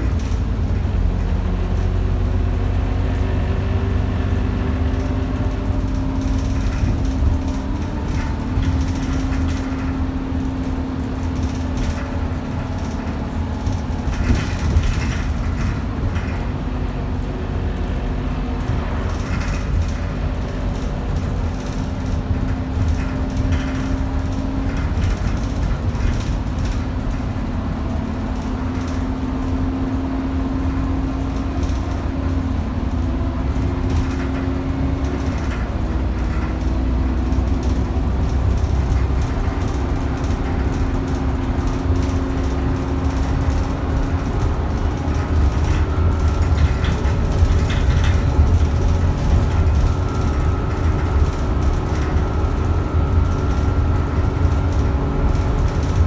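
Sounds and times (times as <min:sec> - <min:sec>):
bus engine and gearbox: 0:00.0 - 0:56.0
road noise rumble: 0:00.0 - 0:56.0.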